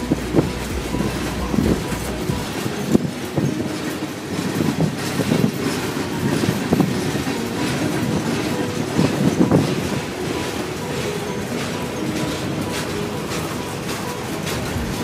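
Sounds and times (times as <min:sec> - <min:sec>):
freight train rolling past: 0:00.0 - 0:15.0
train wheel clacks: 0:00.0 - 0:15.0.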